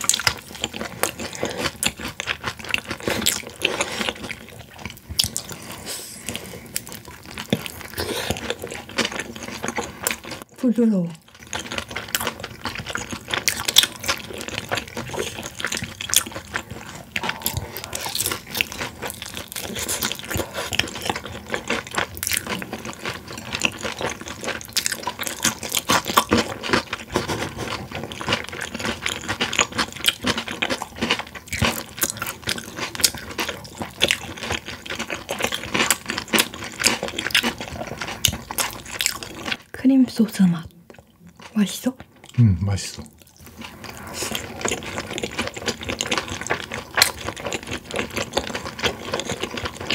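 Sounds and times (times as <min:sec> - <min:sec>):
chewing with mouth clicks: 0:00.0 - 0:10.5, 0:11.2 - 0:39.7, 0:40.6 - 0:49.9.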